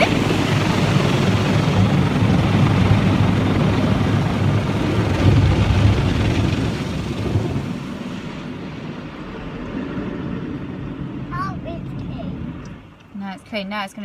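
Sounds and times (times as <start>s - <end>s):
car wash water and machinery rumble: 0.0s - 14.0s.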